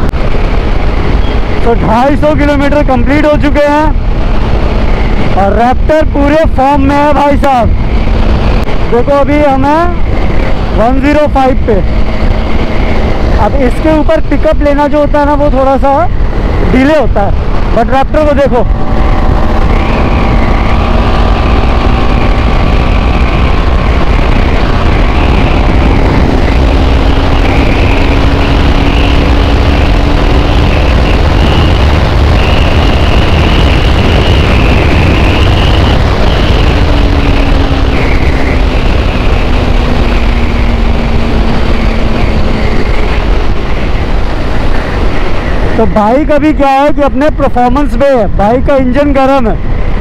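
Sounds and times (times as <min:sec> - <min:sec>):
motorcycle engine pulling hard: 0:00.0 - 0:46.2
wind noise on microphone: 0:00.0 - 0:50.0.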